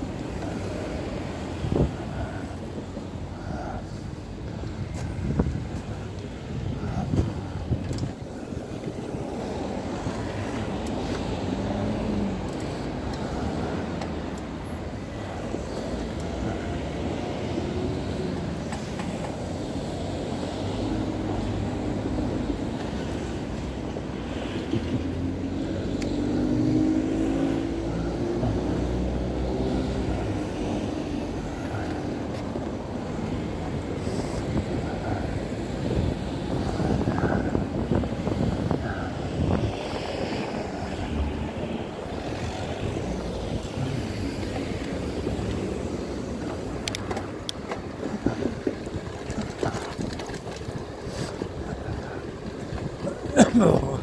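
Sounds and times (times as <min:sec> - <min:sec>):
car engines running: 0:00.0 - 0:54.0.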